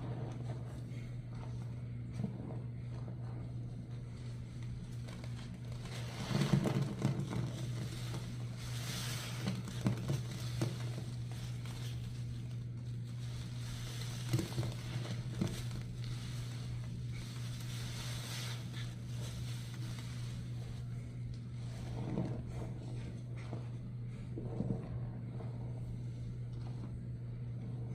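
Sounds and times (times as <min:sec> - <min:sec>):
sponge foam squishing: 0:00.0 - 0:27.9
steady low hum: 0:00.0 - 0:27.9.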